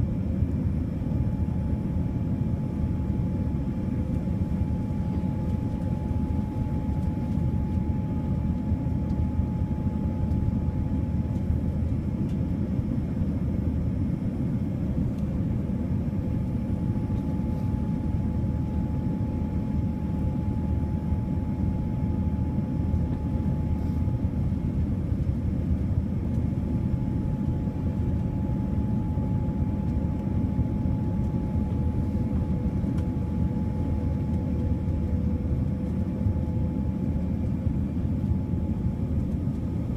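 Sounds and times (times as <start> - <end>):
airliner cabin air and engine rush: 0.0 - 39.9
faint steady hum: 0.0 - 39.9.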